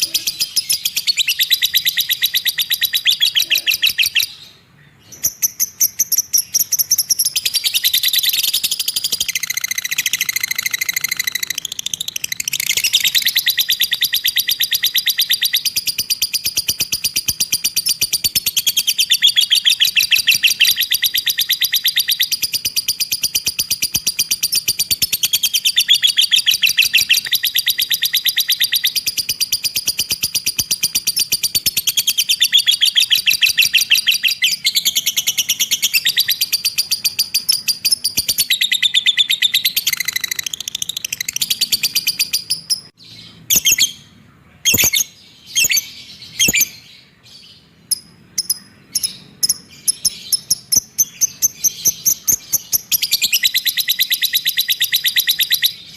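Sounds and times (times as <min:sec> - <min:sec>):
cage bird chattering trill: 0:00.0 - 0:55.9.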